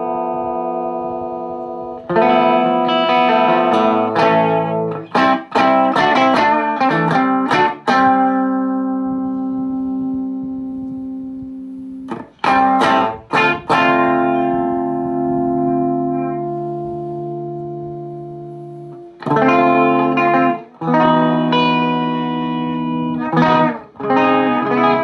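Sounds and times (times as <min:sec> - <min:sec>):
electric guitar chords: 0:00.0 - 0:25.0.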